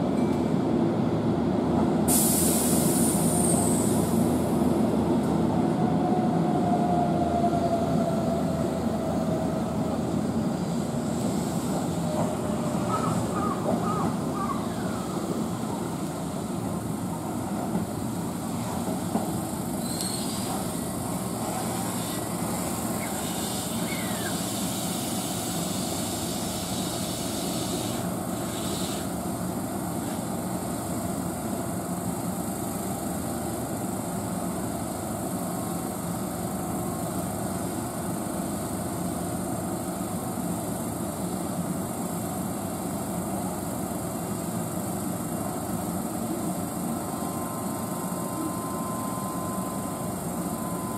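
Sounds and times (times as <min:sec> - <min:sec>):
electric train rumble and hum: 0:00.0 - 0:50.9.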